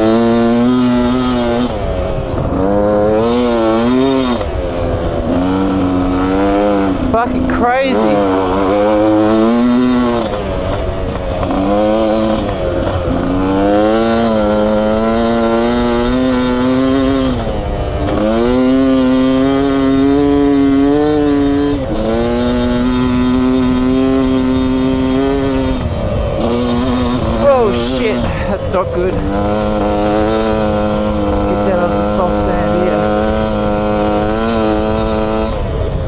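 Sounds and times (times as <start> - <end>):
two-stroke engine revving high: 0.0 - 36.0.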